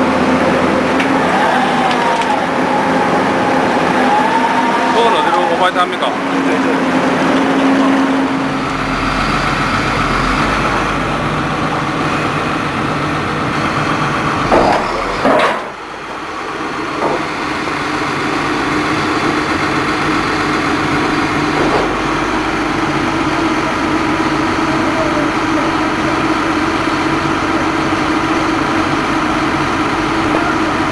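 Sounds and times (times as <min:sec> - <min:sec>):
drilling rig engine running: 0:00.0 - 0:30.9.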